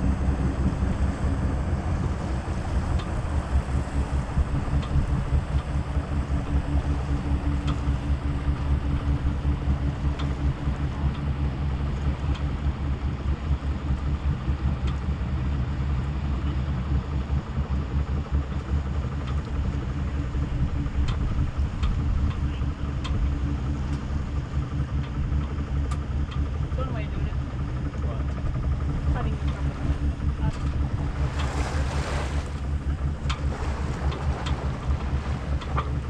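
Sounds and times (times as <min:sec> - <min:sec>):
faint hum: 0:00.0 - 0:36.0
sailboat low rumble: 0:00.0 - 0:36.0.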